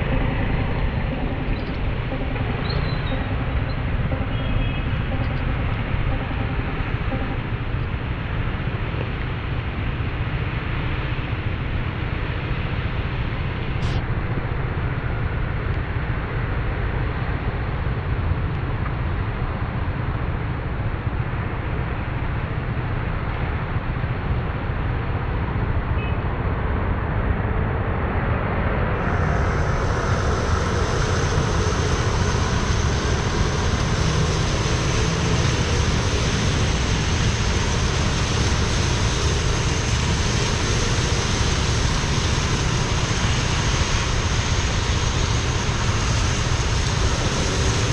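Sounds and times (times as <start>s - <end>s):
car road noise: 0.0s - 47.9s.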